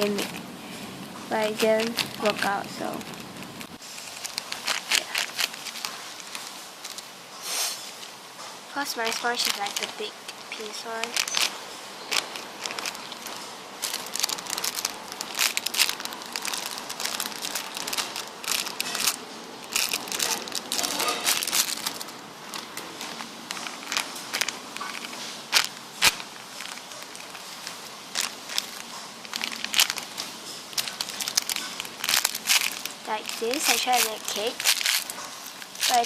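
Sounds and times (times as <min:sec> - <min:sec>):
sponge squishies crinkling: 0:00.0 - 0:00.6, 0:01.3 - 0:07.1, 0:08.8 - 0:36.0.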